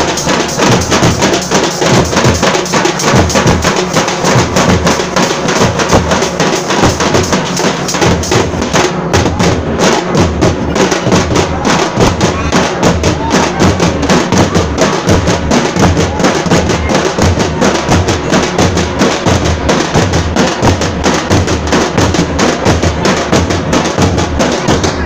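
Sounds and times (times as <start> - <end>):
folk drums fast rhythm: 0.0 - 25.0.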